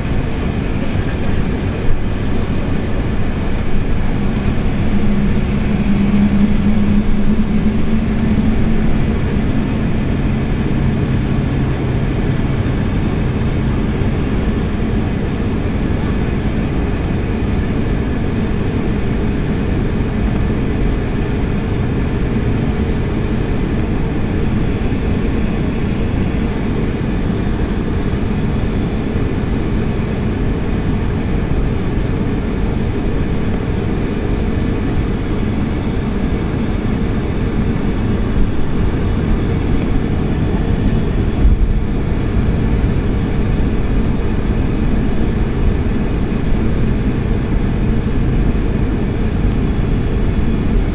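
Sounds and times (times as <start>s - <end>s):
aircraft cabin rumble: 0.0s - 50.9s
faint steady hum: 0.0s - 50.9s.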